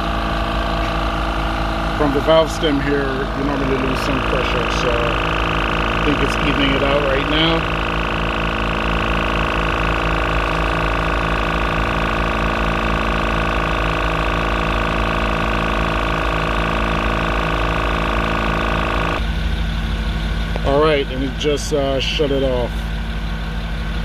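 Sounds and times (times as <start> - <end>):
air compressor pulsing hum: 0.0 - 24.0.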